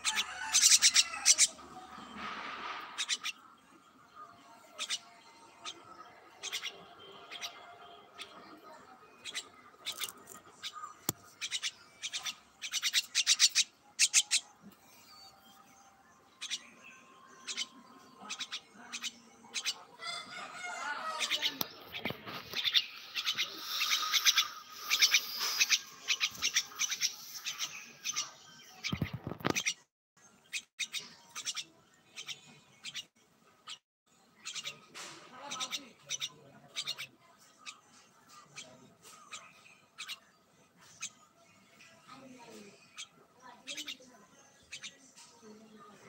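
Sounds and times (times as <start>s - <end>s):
birds chirping and chattering: 0.0s - 46.0s.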